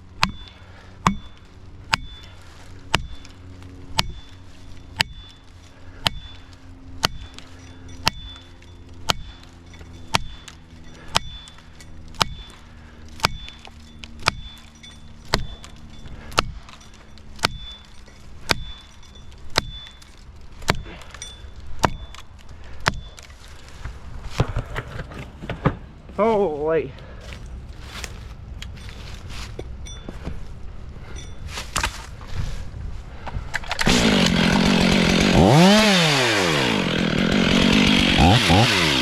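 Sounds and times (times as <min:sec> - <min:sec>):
hammer striking felling wedge: 0:00.0 - 0:26.2, 0:31.1 - 0:32.2, 0:33.6 - 0:39.0.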